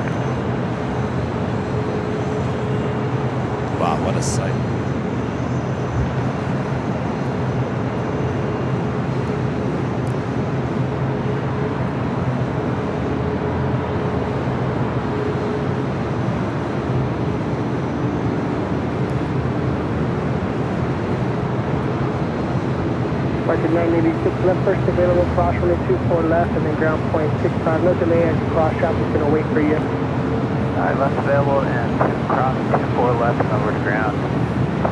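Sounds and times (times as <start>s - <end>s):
faint steady whine: 0.0s - 34.9s
jet engines rumbling: 0.0s - 34.9s.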